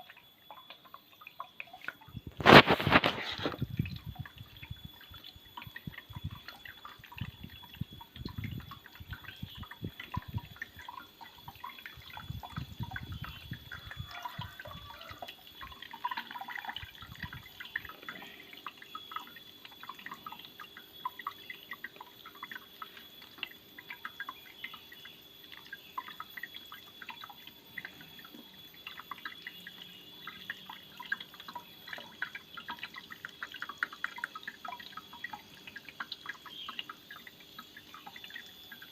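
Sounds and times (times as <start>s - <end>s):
water dripping and trickling: 0.0s - 38.9s.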